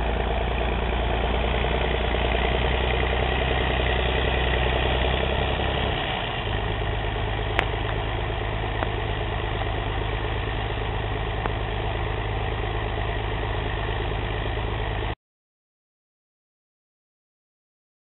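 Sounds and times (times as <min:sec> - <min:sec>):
tractor diesel engine running: 0:00.0 - 0:15.2.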